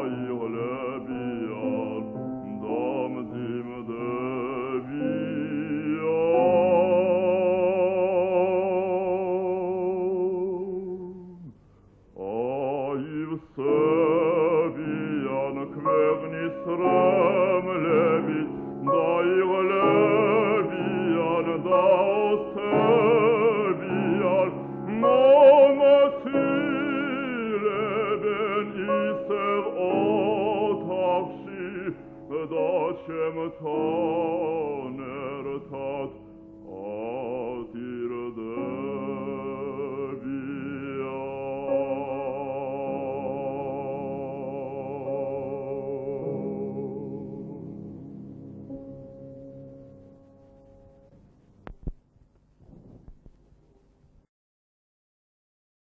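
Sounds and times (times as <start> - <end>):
man singing with vibrato: 0.0 - 11.6, 12.2 - 48.0.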